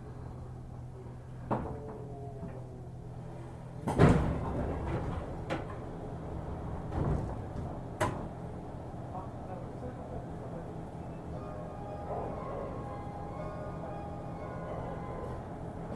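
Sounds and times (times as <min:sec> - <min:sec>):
low hum of idle train: 0:00.0 - 0:15.9.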